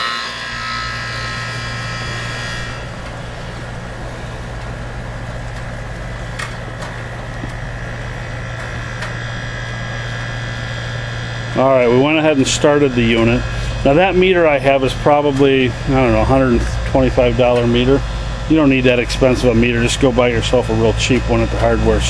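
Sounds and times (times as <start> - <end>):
air conditioner hum: 0.0 - 22.0
high whine: 0.0 - 22.0.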